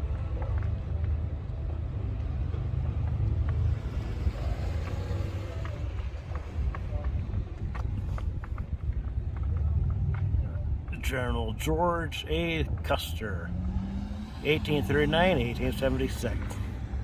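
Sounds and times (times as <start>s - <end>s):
vehicle traffic rumble: 0.0s - 17.0s.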